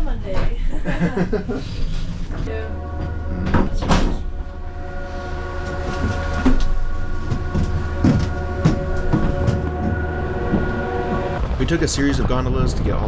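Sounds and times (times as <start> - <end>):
gondola mechanical hum: 0.0 - 13.0.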